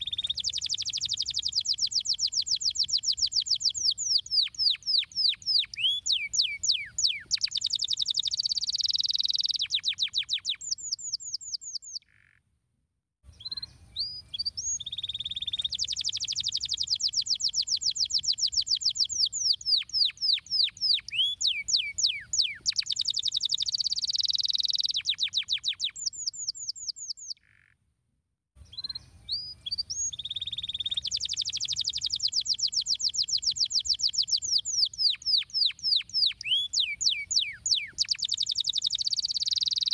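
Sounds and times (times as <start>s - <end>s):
canary singing trills: 0.0s - 12.4s, 13.3s - 27.7s, 28.6s - 39.9s.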